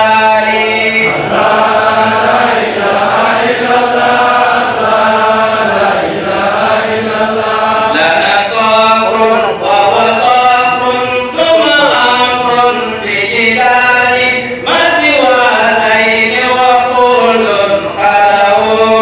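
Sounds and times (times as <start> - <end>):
group of voices chanting: 0.0 - 19.0
man chanting through loudspeakers: 0.0 - 19.0.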